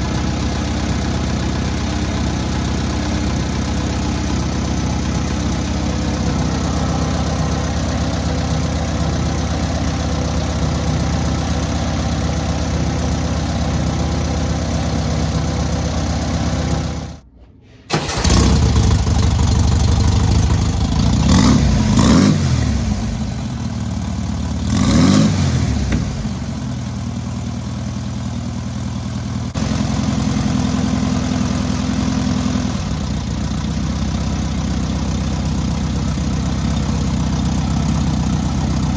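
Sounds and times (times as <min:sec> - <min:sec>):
car engine idling and revving: 0:00.0 - 0:17.3, 0:17.9 - 0:38.9.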